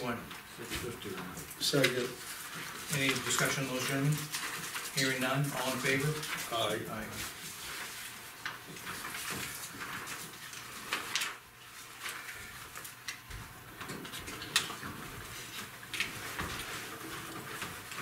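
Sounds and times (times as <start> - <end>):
paper rustling: 0.0 - 18.0.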